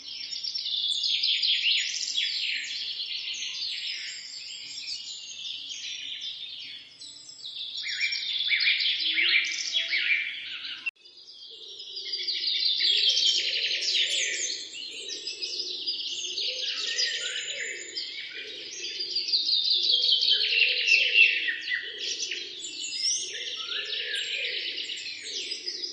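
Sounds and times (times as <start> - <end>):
songbirds chirping and trilling: 0.0 - 25.9.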